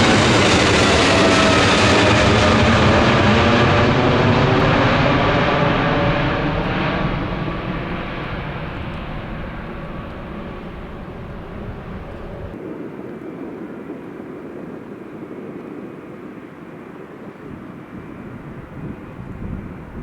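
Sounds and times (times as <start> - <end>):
jet airliner passing by: 0.0 - 20.0.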